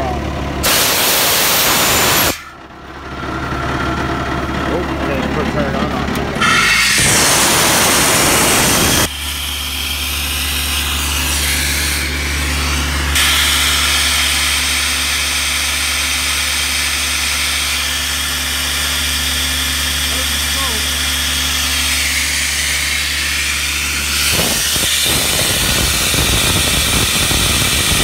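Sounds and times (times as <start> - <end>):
compressor diesel engine running: 0.0 - 28.0
air rushing from outlet: 0.6 - 2.6, 6.4 - 28.0.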